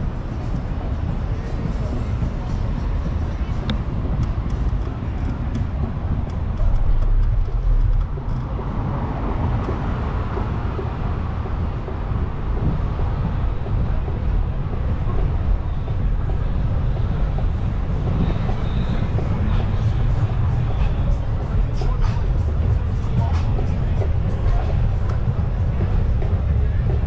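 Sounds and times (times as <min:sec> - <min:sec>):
city traffic rumble: 0:00.0 - 0:27.0.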